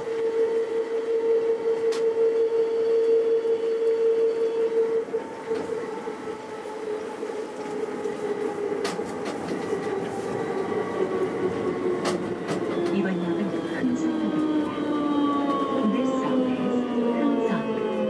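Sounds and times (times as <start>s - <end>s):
train motor whine: 0.0s - 17.8s.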